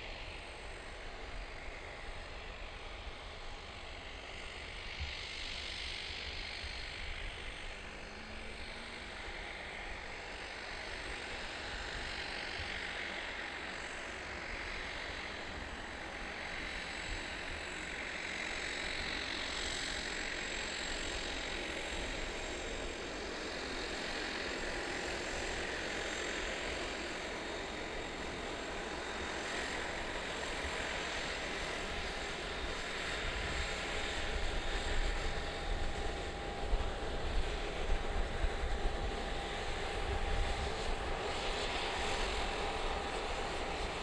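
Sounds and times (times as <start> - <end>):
aircraft engine running: 0.0 - 44.0.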